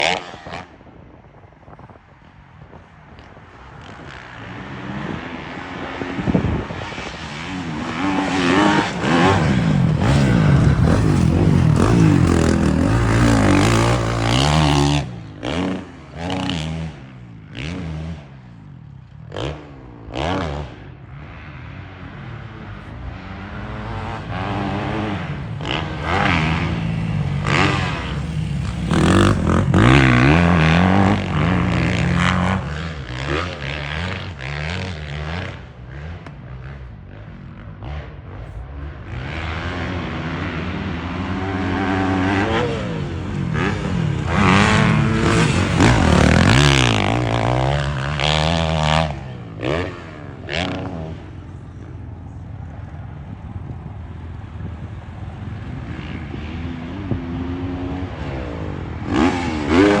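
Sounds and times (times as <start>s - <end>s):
dirt bike engine revving: 4.4s - 18.3s, 19.3s - 51.6s, 55.5s - 60.0s.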